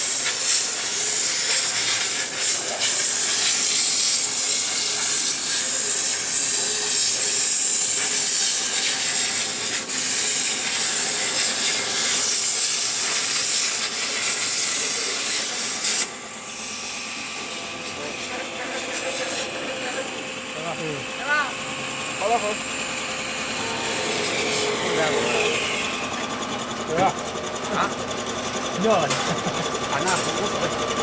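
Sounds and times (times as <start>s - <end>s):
plasma torch hissing: 0.0s - 26.1s.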